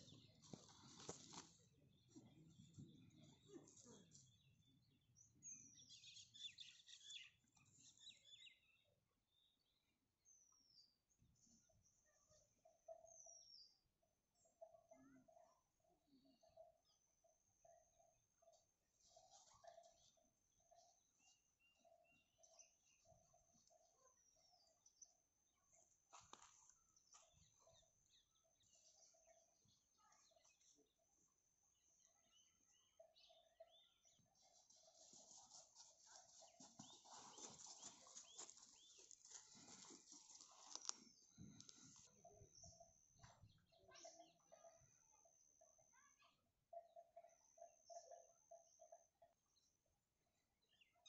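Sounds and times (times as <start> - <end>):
faint birds chirping: 0.0 - 51.0.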